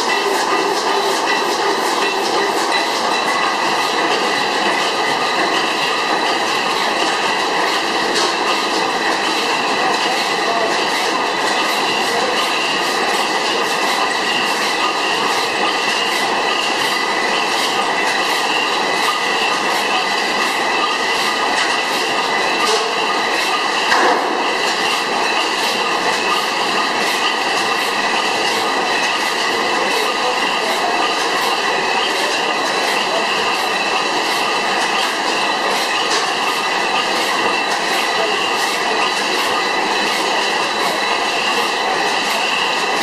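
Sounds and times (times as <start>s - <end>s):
engine knock: 0.0s - 43.0s
stationary gas engine clattering: 0.0s - 43.0s.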